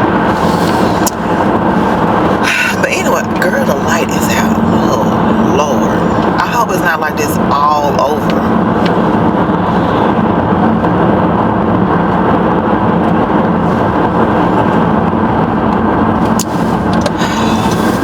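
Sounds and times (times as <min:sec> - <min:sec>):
road and engine noise in car: 0:00.0 - 0:18.0.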